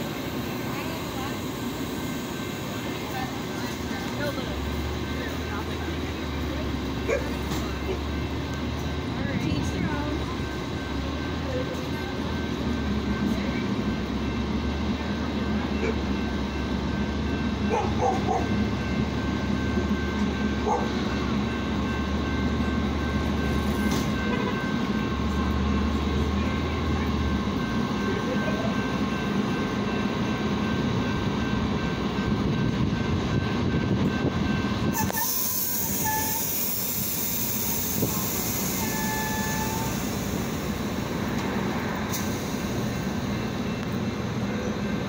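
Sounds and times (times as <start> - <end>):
train idling with low hum: 0.0 - 45.0.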